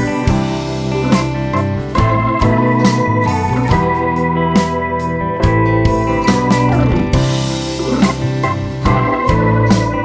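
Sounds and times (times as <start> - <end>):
organ chords: 0.0 - 10.0.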